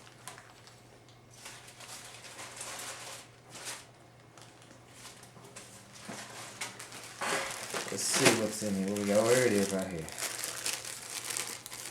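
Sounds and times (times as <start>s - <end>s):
packaging rustling: 0.0s - 0.8s, 1.4s - 5.3s, 5.9s - 11.9s.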